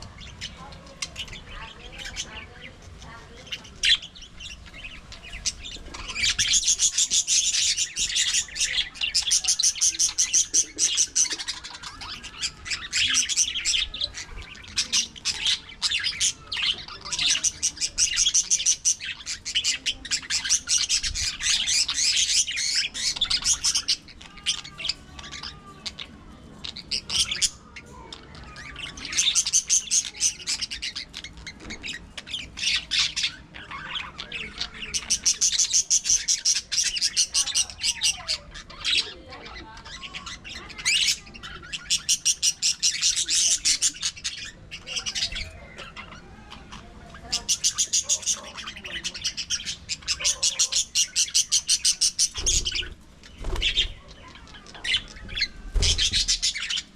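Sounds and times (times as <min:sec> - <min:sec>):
budgerigars chattering and chirping: 0:00.0 - 0:56.9.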